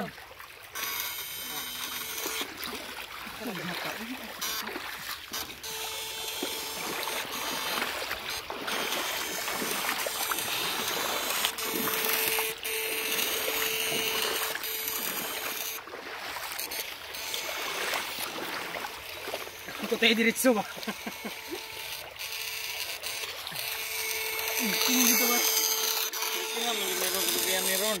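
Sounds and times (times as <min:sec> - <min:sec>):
water splashing around legs: 0:00.0 - 0:28.0
steady hum: 0:00.7 - 0:28.0.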